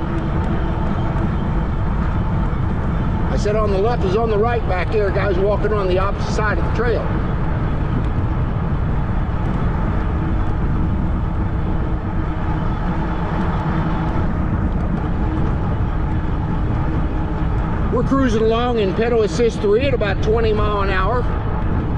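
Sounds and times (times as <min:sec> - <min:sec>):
fat tire rolling: 0:00.0 - 0:21.9
rushing wind: 0:00.0 - 0:21.9.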